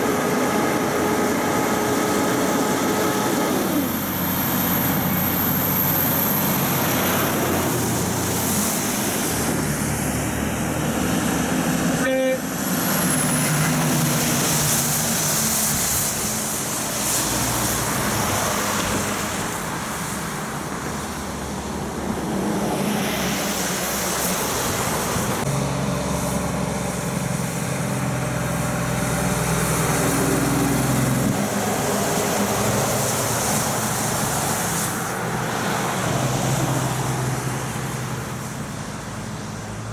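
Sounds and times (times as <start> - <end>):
diesel truck engines droning: 0.0 - 39.9
tyres hissing on wet road: 0.0 - 39.9.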